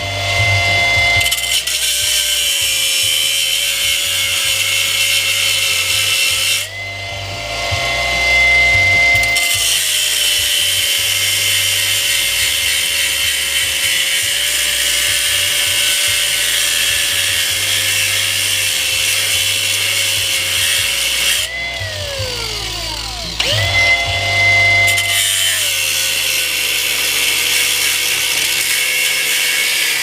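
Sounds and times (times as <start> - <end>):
power tool cutting metal: 0.0 - 30.0.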